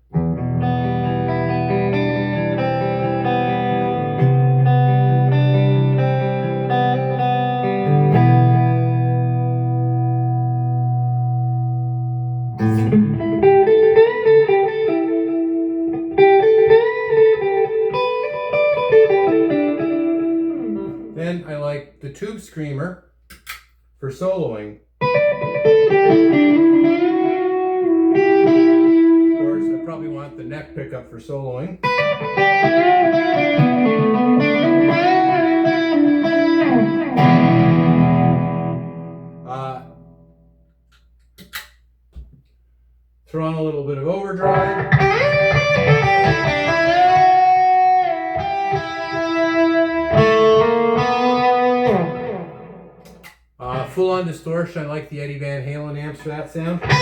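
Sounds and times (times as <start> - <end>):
clean electric guitar chords and notes: 0.0 - 21.2, 25.0 - 30.8, 31.8 - 40.4, 44.4 - 54.0, 56.3 - 57.0.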